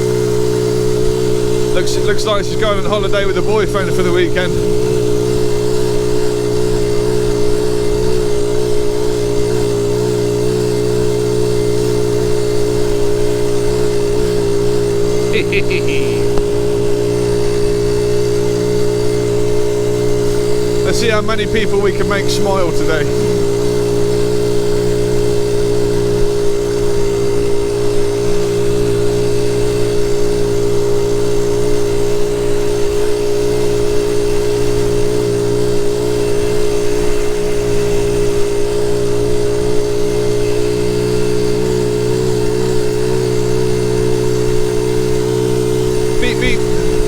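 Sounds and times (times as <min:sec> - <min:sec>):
small motorbike engine running: 0:00.0 - 0:47.0.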